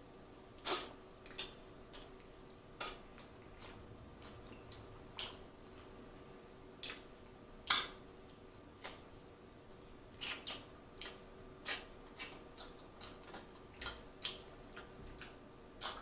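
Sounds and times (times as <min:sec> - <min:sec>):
faint steady hum: 0:00.0 - 0:16.0
wet chewing and squishing: 0:00.4 - 0:16.0.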